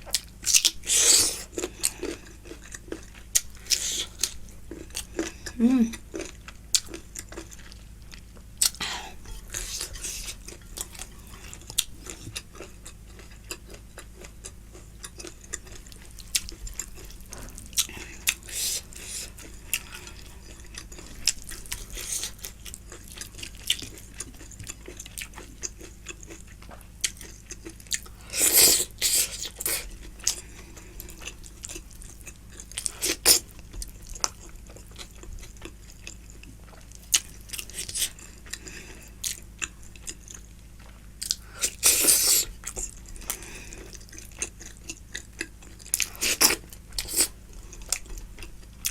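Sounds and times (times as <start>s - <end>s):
close-miked chewing food: 0.0s - 48.9s.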